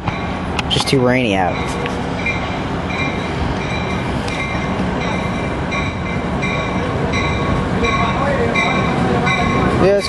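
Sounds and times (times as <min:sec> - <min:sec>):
train rumbling by: 0:00.0 - 0:10.0.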